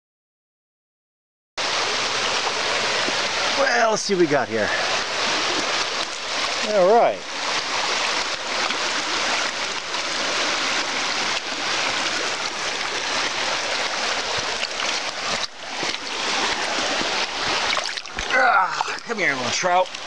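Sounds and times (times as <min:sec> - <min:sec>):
stream rushing over stones: 0:01.6 - 0:20.0.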